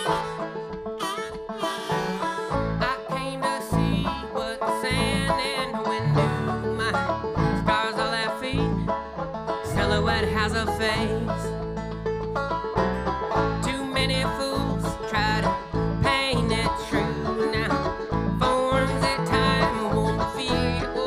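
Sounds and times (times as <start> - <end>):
banjo picking: 0.0 - 21.0
string band playing: 0.0 - 21.0.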